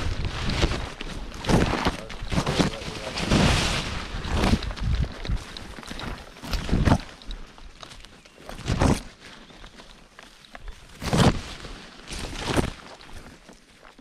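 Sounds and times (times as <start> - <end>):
footsteps crunching on a trail: 0.0 - 14.0.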